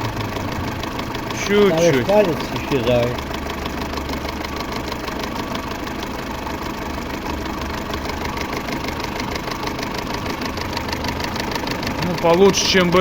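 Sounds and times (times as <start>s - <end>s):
car engine idling: 0.0s - 13.0s
fast light engine ticking: 0.0s - 13.0s.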